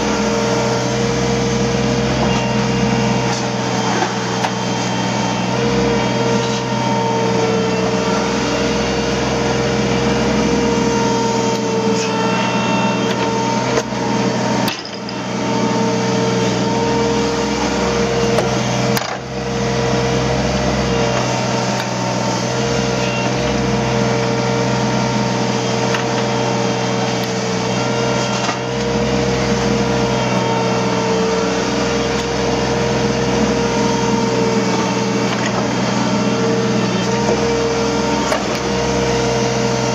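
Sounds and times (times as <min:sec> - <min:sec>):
diesel engine drone: 0:00.0 - 0:39.9
high hydraulic whine: 0:00.0 - 0:39.9.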